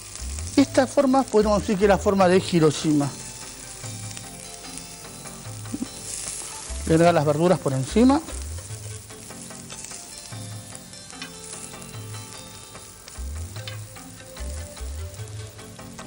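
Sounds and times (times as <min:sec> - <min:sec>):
batter sizzling on a griddle: 0:00.0 - 0:16.0
soft background music: 0:00.0 - 0:16.0.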